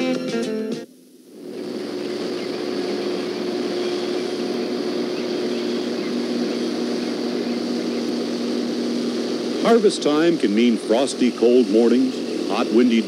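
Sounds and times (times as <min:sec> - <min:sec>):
combine harvester engine drone: 0:00.9 - 0:13.0.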